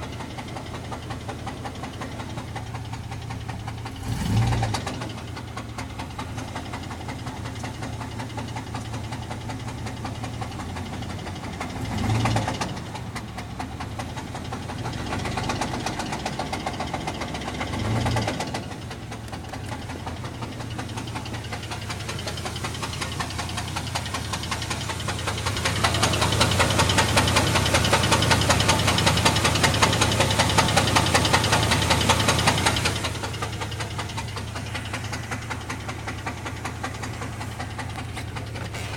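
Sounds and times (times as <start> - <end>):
engine running with rod knock: 0.0 - 38.9.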